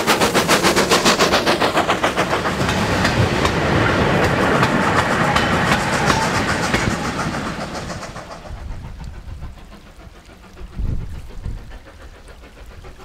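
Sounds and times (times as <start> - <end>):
train rumble: 0.0 - 13.0
train wheels clattering over rail joints: 0.0 - 13.0.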